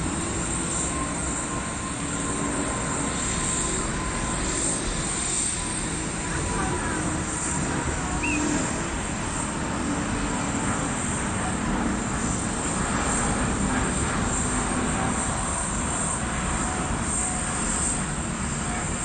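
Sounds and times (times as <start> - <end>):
jet engine rush: 0.0 - 19.0.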